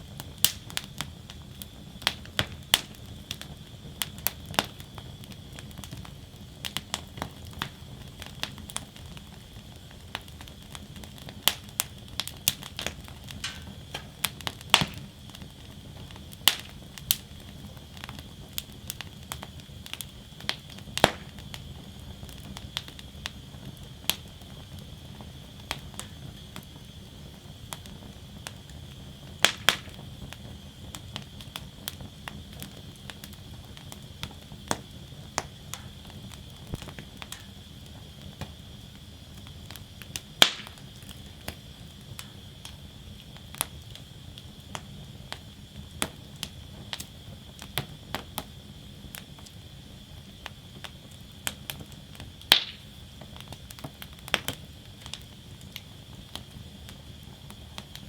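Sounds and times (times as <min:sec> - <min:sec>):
burning wood popping: 0:00.0 - 0:58.0
wood fire crackling: 0:00.0 - 0:58.0.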